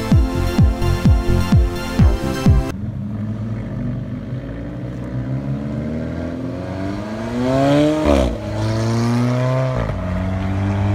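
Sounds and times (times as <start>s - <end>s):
car engine accelerating: 1.0s - 10.9s.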